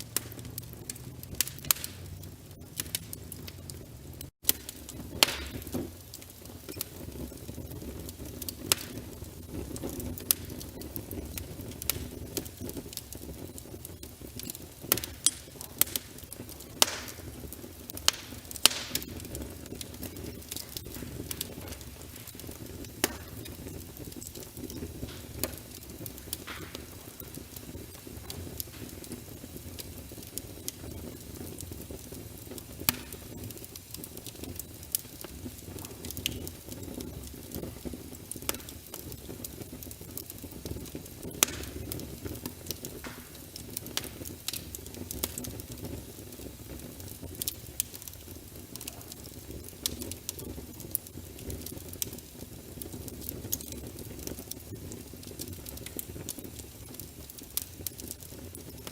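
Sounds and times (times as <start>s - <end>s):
fire flames rumbling: 0.0s - 58.9s
logs crackling and popping: 0.0s - 58.9s.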